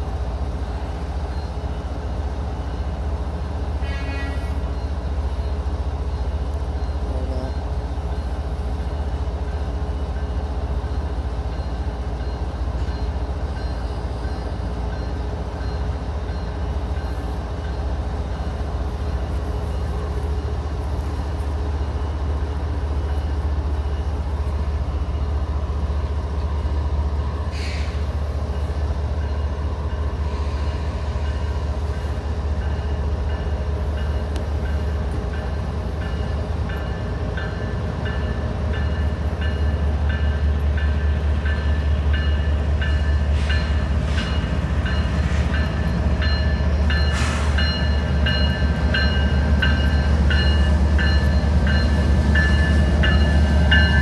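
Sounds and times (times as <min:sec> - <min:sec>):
diesel locomotive rumble: 0:00.0 - 0:54.0
freight train approaching: 0:00.0 - 0:54.0.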